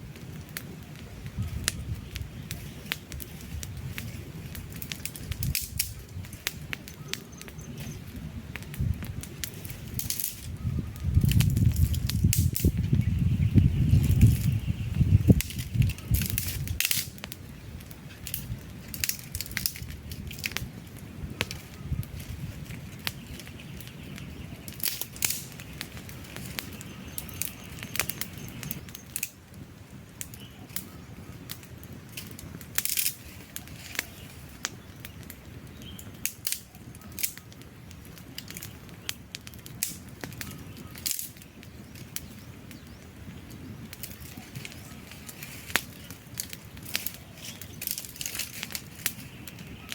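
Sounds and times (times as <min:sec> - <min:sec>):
low rush of flame: 0:00.0 - 0:49.9
wood fire crackling and popping: 0:00.0 - 0:49.9.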